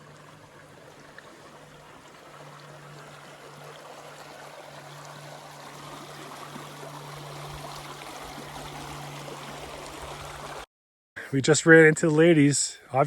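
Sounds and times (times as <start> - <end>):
low steady hum: 0.0 - 10.6
small stream running: 0.0 - 10.7.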